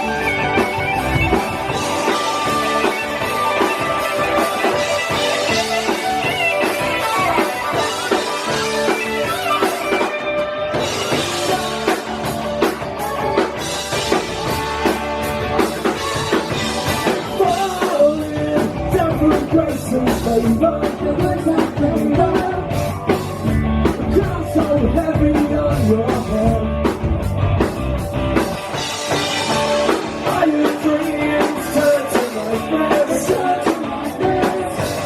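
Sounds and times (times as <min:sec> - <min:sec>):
rock band playing: 0:00.0 - 0:35.0.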